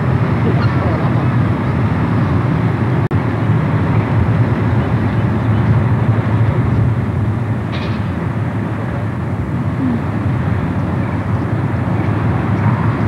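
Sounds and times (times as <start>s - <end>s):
distant road traffic rumble: 0.0s - 13.0s.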